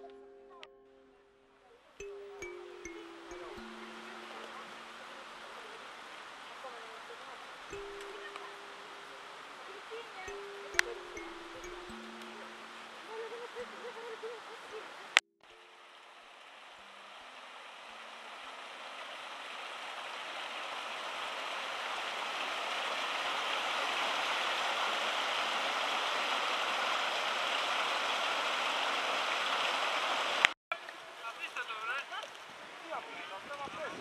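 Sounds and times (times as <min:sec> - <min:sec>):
stream running over rocks: 0:02.0 - 0:33.9.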